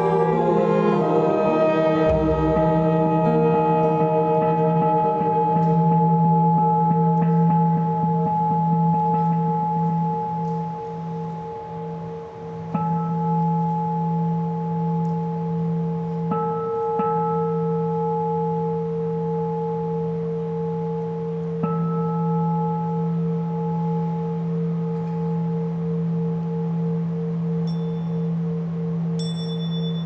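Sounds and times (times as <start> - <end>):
bowl bell struck and ringing: 0.0 - 30.0.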